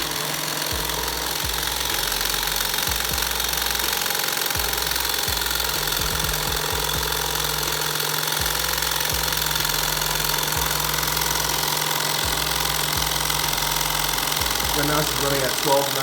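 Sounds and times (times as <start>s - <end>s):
engine running fast and even: 0.0s - 16.0s.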